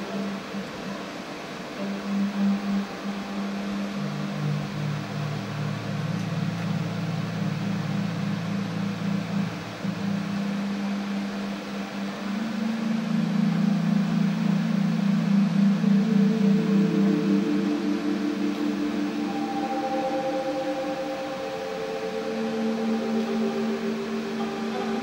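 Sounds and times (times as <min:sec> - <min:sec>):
low sustained musical drone: 0:00.0 - 0:25.0.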